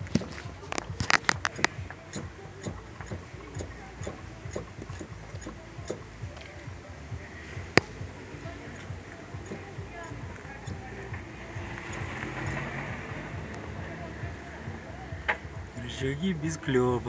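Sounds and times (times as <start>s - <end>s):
suspension ball joint knocking: 0.0s - 6.8s, 7.6s - 15.8s.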